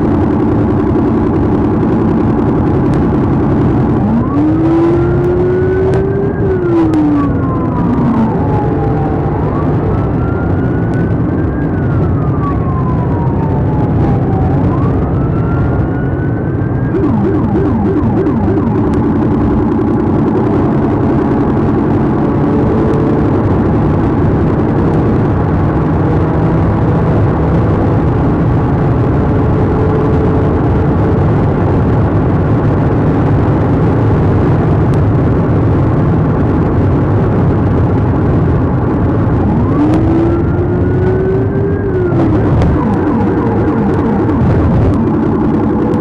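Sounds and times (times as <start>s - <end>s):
police siren wailing: 0.0s - 35.2s, 36.3s - 46.0s
car engine and road noise: 0.0s - 46.0s.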